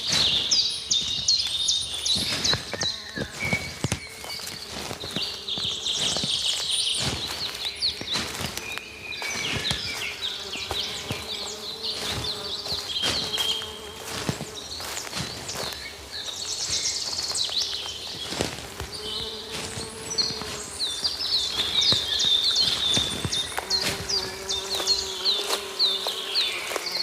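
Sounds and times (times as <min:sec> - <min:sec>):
footsteps crunching on leaves: 0:00.0 - 0:27.0
insect buzz: 0:00.0 - 0:27.0
small birds chirping: 0:00.0 - 0:27.0.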